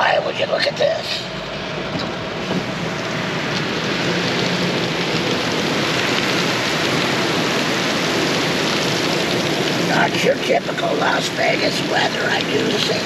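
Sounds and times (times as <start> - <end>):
heavy rain on a car: 0.0 - 13.0.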